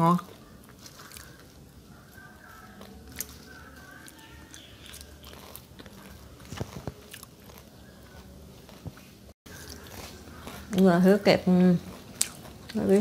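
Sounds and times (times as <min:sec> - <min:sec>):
person chewing crunchy food: 0:00.1 - 0:13.0.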